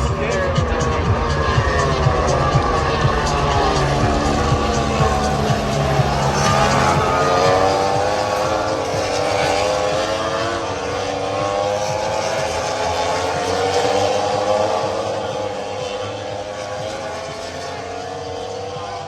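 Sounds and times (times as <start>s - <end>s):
motorcycle engine revving high: 0.0s - 19.0s.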